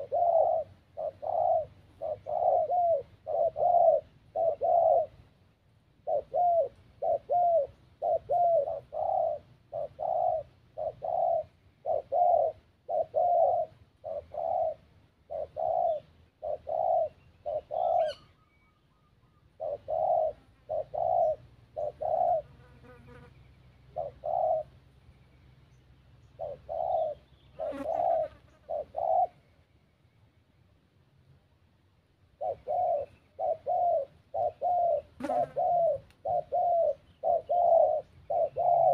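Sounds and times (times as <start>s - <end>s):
doves cooing: 0.0s - 5.4s, 6.0s - 23.2s, 23.8s - 24.9s, 26.2s - 29.5s, 32.3s - 38.9s.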